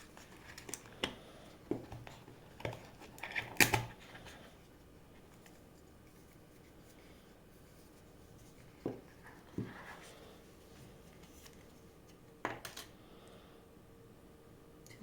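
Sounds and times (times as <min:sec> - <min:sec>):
soft packaging rustle: 0:00.0 - 0:12.9.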